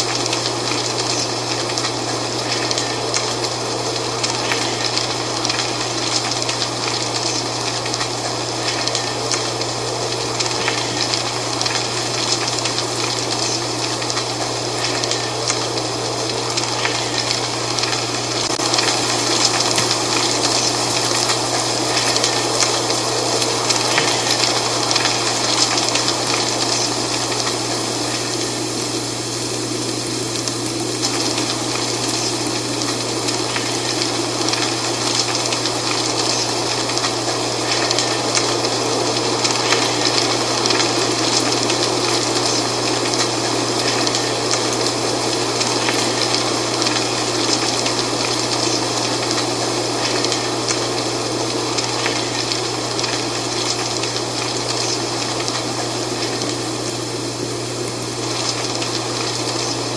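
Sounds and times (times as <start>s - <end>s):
constant low hum: 0.0s - 59.9s
dry leaves rustling in wind: 0.0s - 59.9s.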